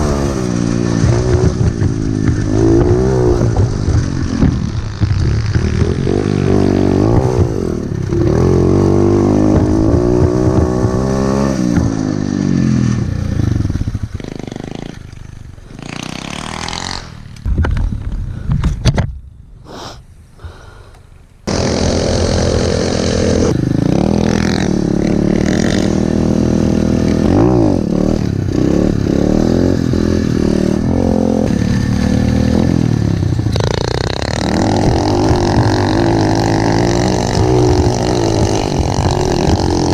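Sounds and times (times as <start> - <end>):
pit bike engine revving: 0.0 - 17.5, 21.5 - 39.9.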